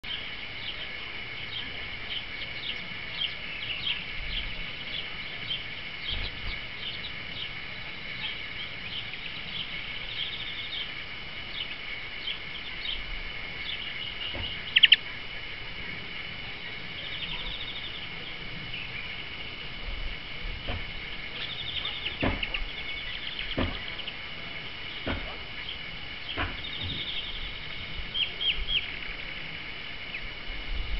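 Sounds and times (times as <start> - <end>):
bird trill: 0.0 - 15.1, 16.7 - 19.2, 21.1 - 24.2, 24.8 - 29.2
high-pitched background hiss: 0.0 - 30.9
songbirds chirping: 0.0 - 30.9.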